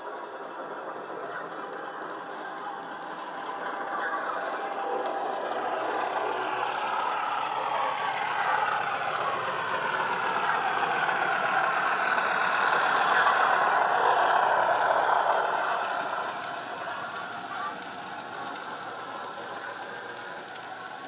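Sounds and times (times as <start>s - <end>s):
diesel locomotive engine running: 0.0s - 21.0s
model wagons rolling on track: 0.0s - 21.0s
wheels clicking on rails: 0.0s - 21.0s.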